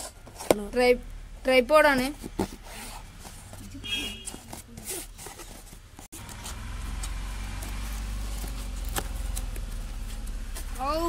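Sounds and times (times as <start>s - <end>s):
cardboard box being handled: 1.9s - 11.0s.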